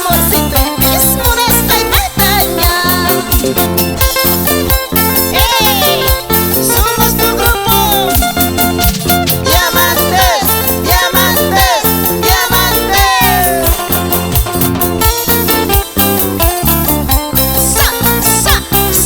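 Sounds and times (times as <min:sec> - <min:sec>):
upbeat latin-style music: 0:00.0 - 0:19.0.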